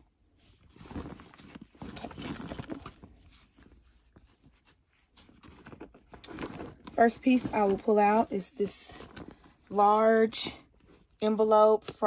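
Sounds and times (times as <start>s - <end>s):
fabric bag rustling: 0.0s - 11.7s.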